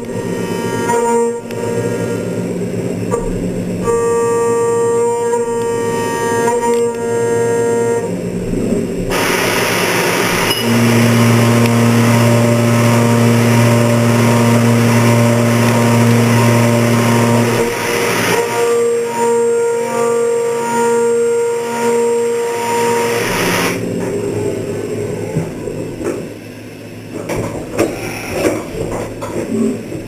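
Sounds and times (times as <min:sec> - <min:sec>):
end mill cutting steel whine: 0:00.0 - 0:27.2
steady low hum: 0:00.0 - 0:30.0.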